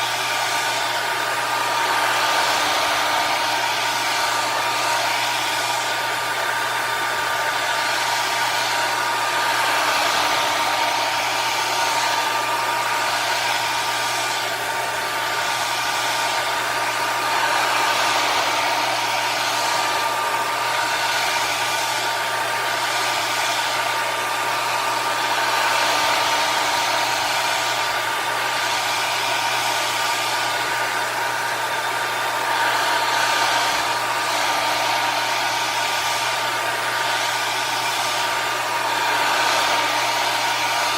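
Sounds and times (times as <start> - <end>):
hot-air blower whining: 0.0 - 40.9.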